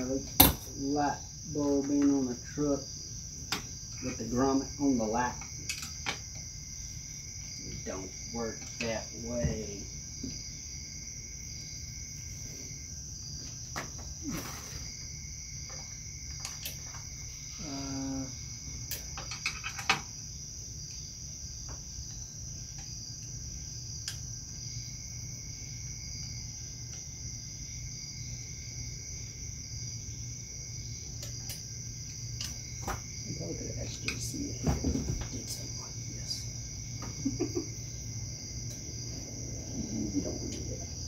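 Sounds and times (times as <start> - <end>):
crickets chirring: 0.0 - 41.0.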